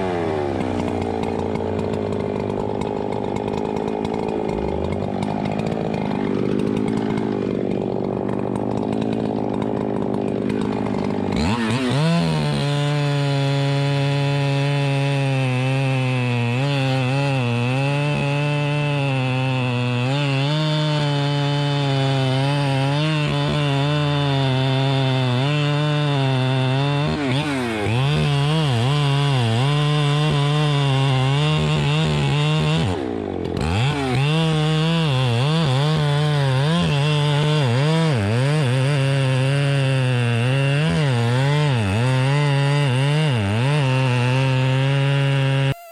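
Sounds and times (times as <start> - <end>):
chainsaw running: 0.0 - 45.9.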